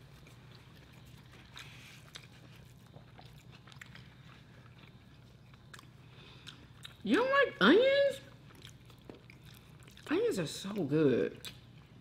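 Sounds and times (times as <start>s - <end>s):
soft chewing: 0.0s - 7.2s, 8.2s - 12.0s.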